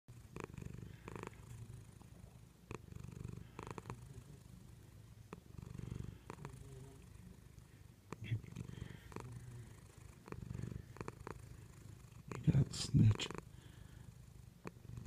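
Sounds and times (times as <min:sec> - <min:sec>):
cat purring: 0:00.1 - 0:15.0.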